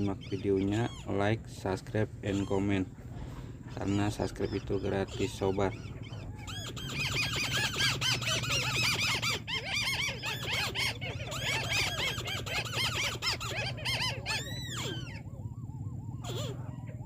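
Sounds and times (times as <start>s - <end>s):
birds calling in chorus: 0.0s - 17.0s
drawn-out arching bird calls: 0.0s - 17.0s
steady low hum: 0.0s - 17.0s.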